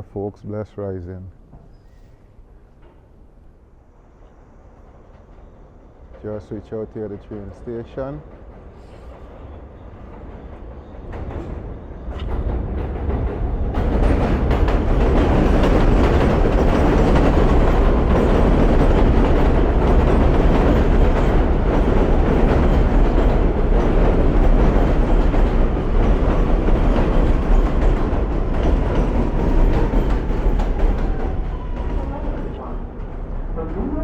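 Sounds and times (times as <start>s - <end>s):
subway train rumbling on rails: 1.4s - 34.0s.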